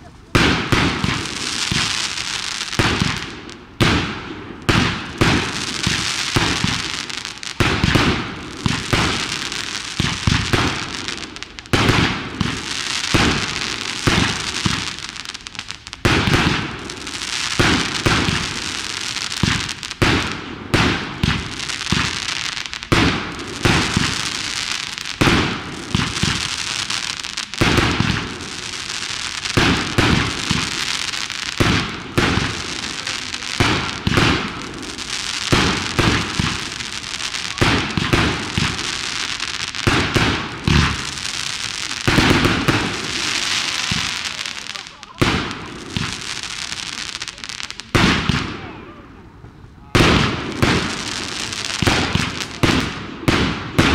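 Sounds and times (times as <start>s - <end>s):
firework shells bursting with bangs: 0.0s - 48.7s, 49.4s - 53.9s
crackling hiss of fireworks: 0.0s - 53.9s.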